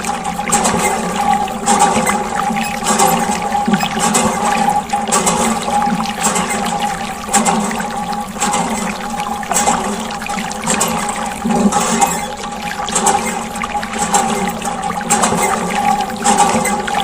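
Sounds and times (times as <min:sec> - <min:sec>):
pump motor hum: 0:00.0 - 0:17.0
water gushing and splashing: 0:00.0 - 0:17.0.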